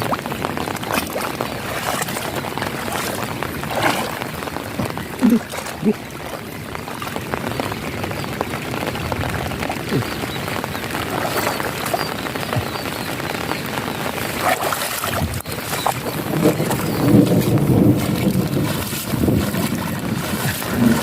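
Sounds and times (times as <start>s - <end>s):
drops splashing into puddles: 0.0s - 21.0s
heavy rain falling: 0.0s - 21.0s.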